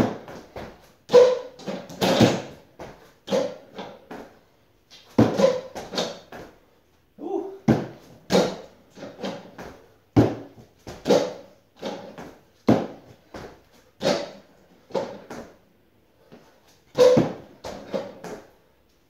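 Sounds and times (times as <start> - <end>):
feet thudding on step bench: 0.0 - 4.3, 5.0 - 6.6, 7.6 - 15.6, 16.3 - 18.5.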